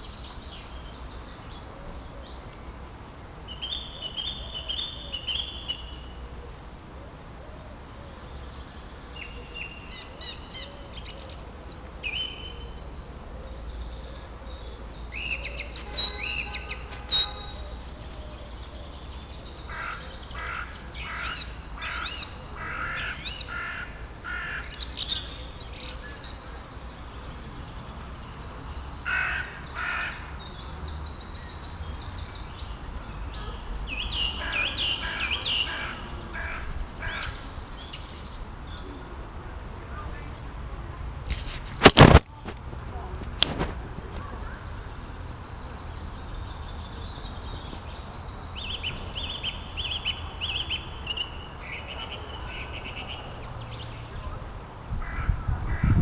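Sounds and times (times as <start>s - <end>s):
birds singing and chirping: 0.0s - 6.9s, 8.4s - 39.1s, 44.4s - 56.0s.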